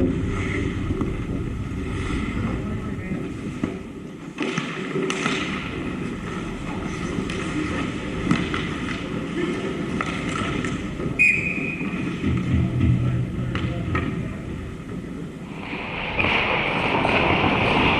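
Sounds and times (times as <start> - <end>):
skates scraping on ice: 0.0 - 13.0, 14.8 - 17.9
hockey sticks and puck clacking: 0.0 - 17.9.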